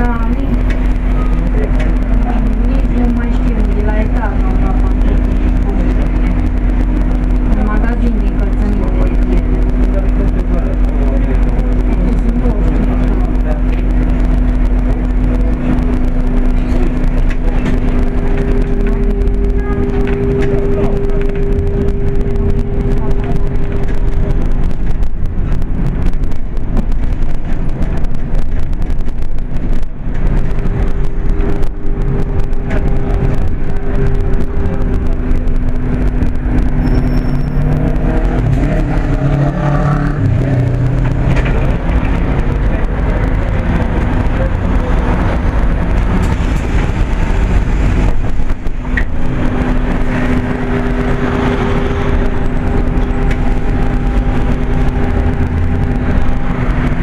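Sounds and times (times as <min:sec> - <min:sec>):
droning hum: 0:00.0 - 0:57.0
engine and road rumble: 0:00.0 - 0:57.0.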